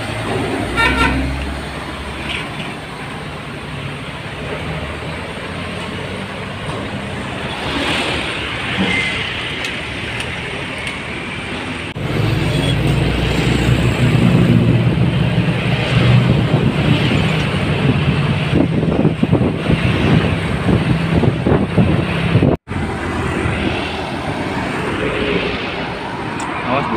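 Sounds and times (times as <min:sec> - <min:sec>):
diesel truck engine drone: 0:00.0 - 0:26.9
road traffic passing: 0:00.0 - 0:26.9.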